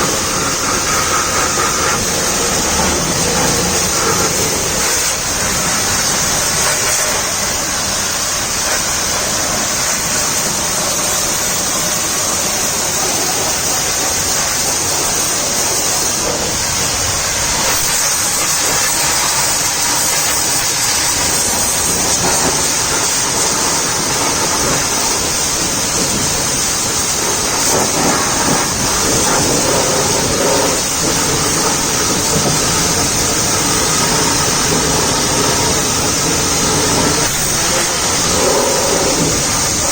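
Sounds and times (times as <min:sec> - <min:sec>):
high-pressure water jet hissing: 0:00.0 - 0:39.9.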